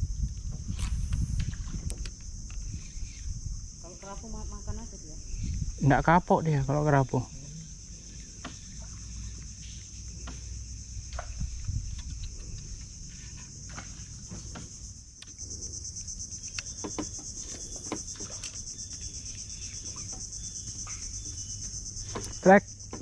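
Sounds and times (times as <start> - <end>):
insects buzzing: 0.0 - 23.0.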